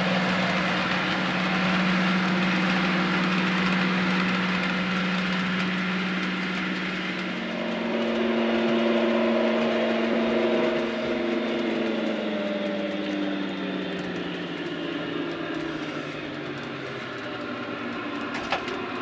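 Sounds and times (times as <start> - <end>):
model locomotive diesel engine sound: 0.0 - 19.0.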